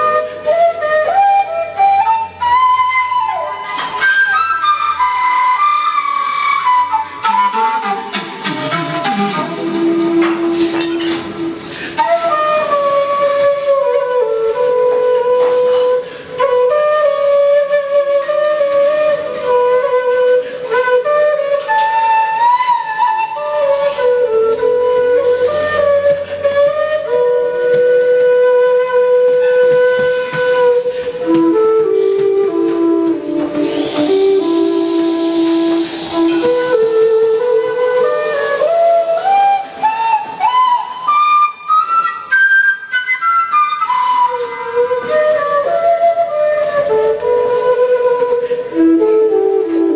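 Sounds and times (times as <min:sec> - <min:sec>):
bamboo flute slow melody: 0:00.0 - 0:49.9.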